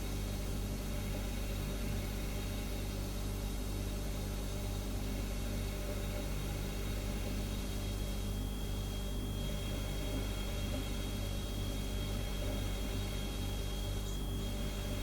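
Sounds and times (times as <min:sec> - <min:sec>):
refrigerator humming: 0:00.0 - 0:15.0.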